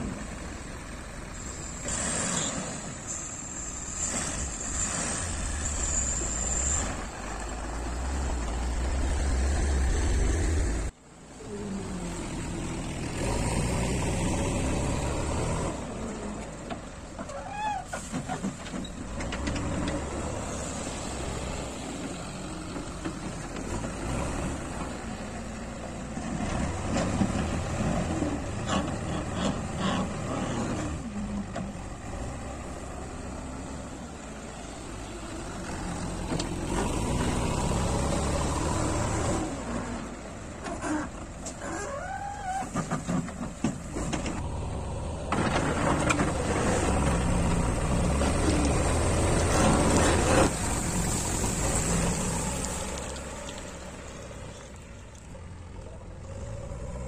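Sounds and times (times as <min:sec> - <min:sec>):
backhoe diesel engine working: 0:00.0 - 0:57.0
diesel truck engine rumbling: 0:00.0 - 0:57.0.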